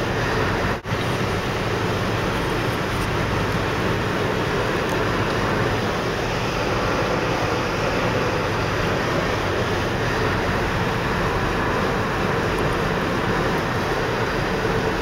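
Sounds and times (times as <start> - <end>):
road and wind noise in car: 0.0 - 15.0.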